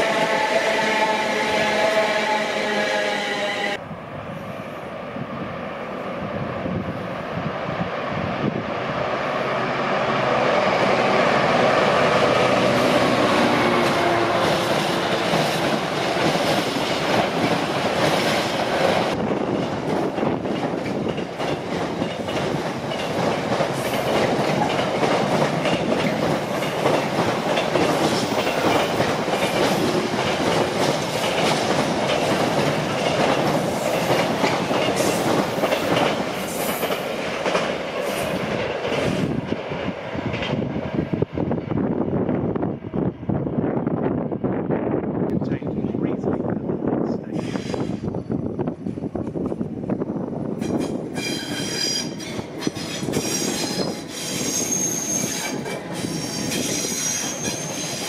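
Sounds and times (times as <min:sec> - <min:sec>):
diesel locomotive engine passing: 0:00.0 - 0:58.0
rumbling train wheels: 0:00.0 - 0:58.0.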